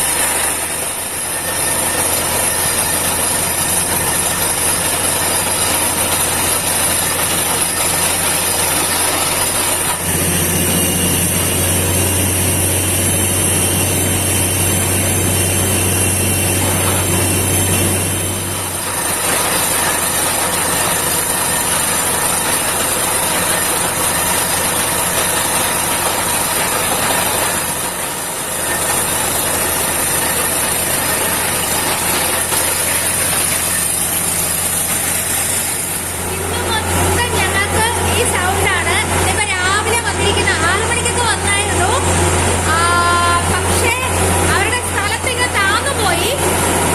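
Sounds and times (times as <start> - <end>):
drilling rig din with deep hum: 0.0 - 46.9.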